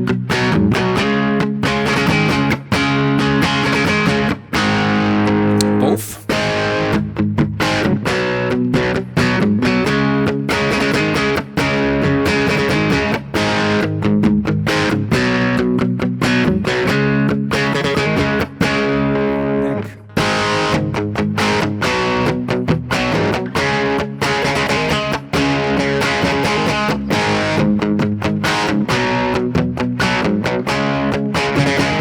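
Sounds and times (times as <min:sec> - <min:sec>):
overdriven electric guitar: 0:00.0 - 0:32.0.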